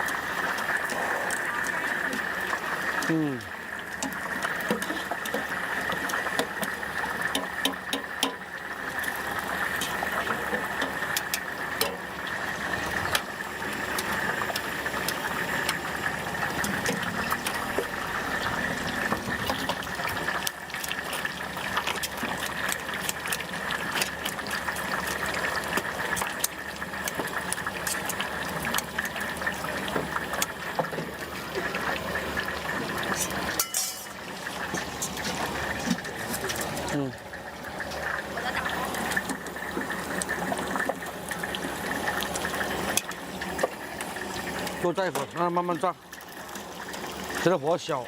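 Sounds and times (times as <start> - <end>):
tofu deep-frying in oil: 0.0 - 48.0.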